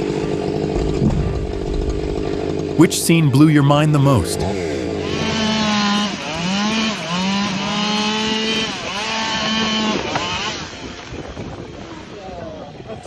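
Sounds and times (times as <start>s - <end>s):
chainsaw running at high revs: 0.0s - 11.5s.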